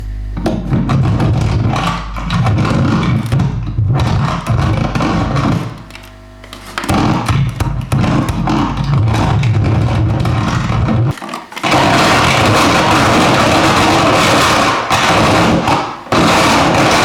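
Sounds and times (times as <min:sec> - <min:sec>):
noisy crackle: 0:00.0 - 0:17.0
pulsing distorted low drone: 0:00.0 - 0:17.0.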